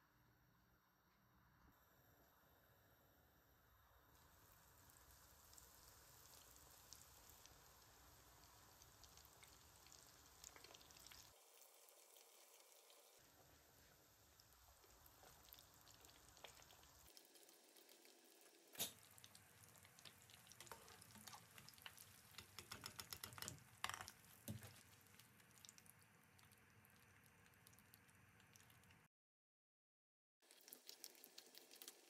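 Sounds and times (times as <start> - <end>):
food sizzling in bubbling oil: 3.9 - 29.1, 30.4 - 32.0.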